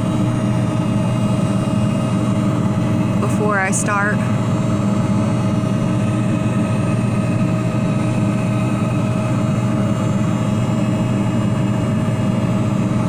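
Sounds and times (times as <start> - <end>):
furnace blower running: 0.0 - 13.0.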